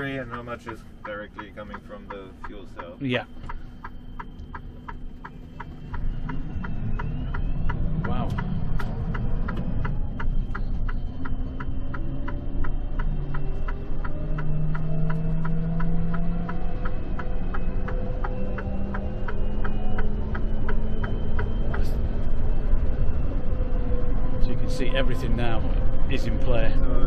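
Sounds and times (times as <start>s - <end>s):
electric drive whine: 0.0s - 27.0s
low road rumble: 0.0s - 27.0s
steady ticking: 0.0s - 27.0s.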